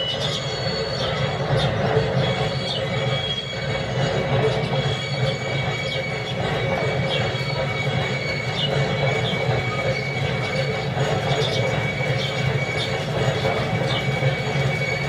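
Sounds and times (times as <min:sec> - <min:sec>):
high wheel squeaks: 0:00.0 - 0:15.0
model train wagons rumbling: 0:00.0 - 0:15.0.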